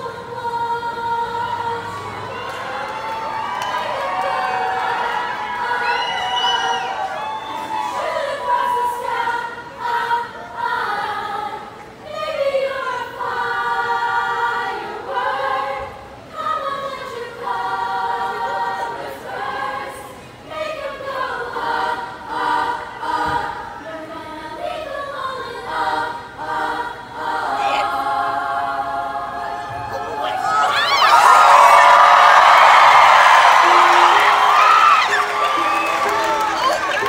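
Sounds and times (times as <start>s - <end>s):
choir singing unaccompanied: 0.0s - 37.0s.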